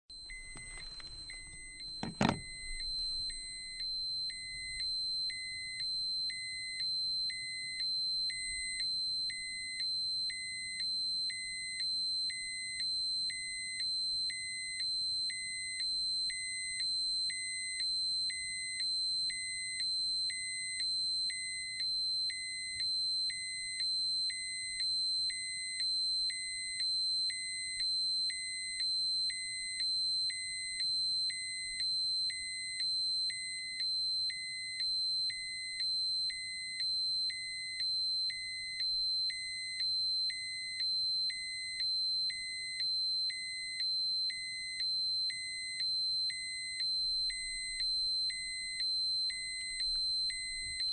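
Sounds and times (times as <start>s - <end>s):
continuous high-pitched alarm tone: 0.1s - 50.9s.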